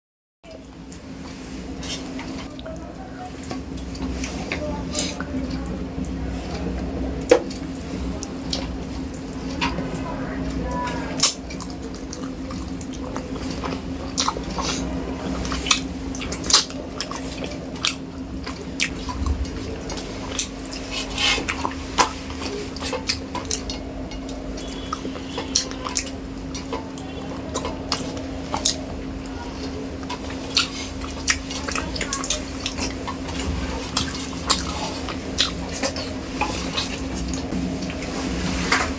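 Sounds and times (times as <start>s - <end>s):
steady low hum: 0.4s - 38.9s
wet chewing and smacking: 3.3s - 38.2s.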